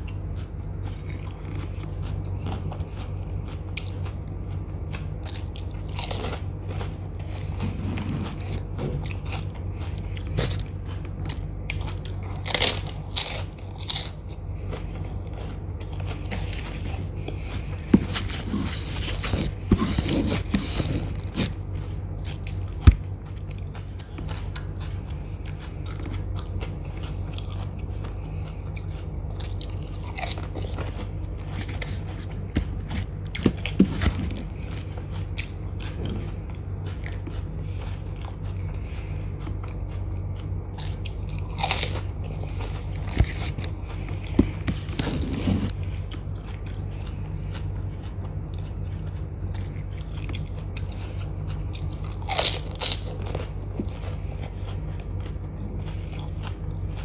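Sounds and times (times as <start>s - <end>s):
crunching and chewing crisp shells: 0.0s - 57.0s
steady low hum: 0.0s - 57.0s.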